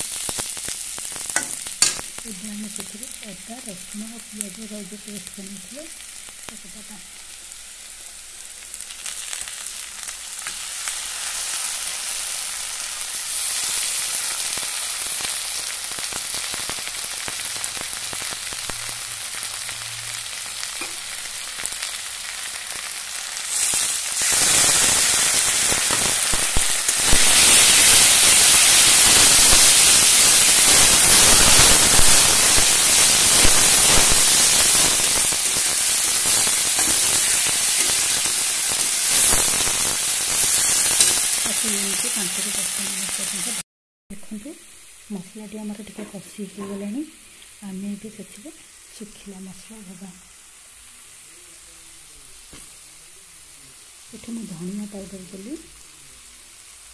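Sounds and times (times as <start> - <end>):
onions sizzling in oil: 0.0 - 43.6, 44.2 - 56.9.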